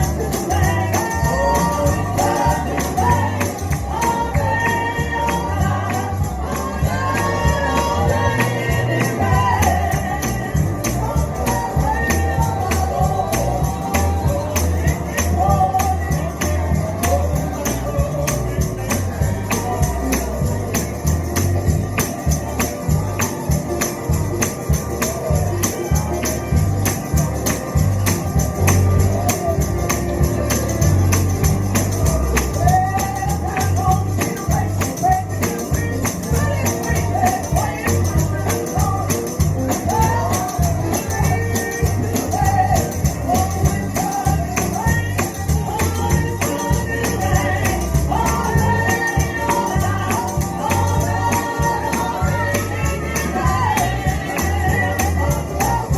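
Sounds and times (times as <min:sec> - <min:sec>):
band playing gospel music: 0:00.0 - 0:55.9
singing: 0:00.0 - 0:55.9
tambourine shaking: 0:00.0 - 0:55.9.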